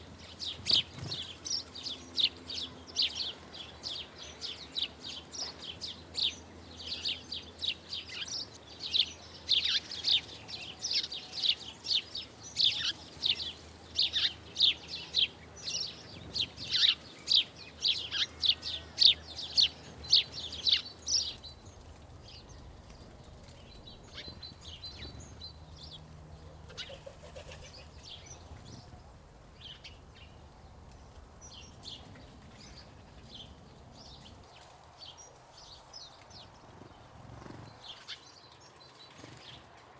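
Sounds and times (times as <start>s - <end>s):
small birds chirping: 0.0s - 39.8s.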